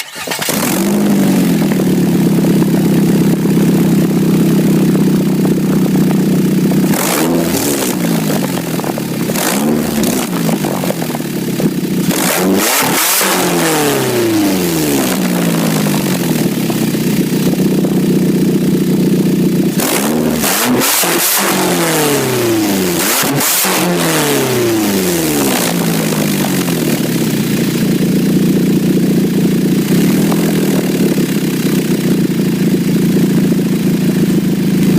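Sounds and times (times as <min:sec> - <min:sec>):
car engine idling and revving: 0:00.0 - 0:34.9
raspy exhaust: 0:00.0 - 0:34.9.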